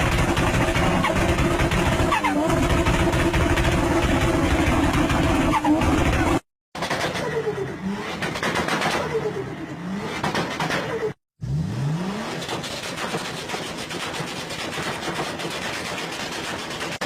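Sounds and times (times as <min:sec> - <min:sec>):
turbocharged engines revving: 0:00.0 - 0:16.8.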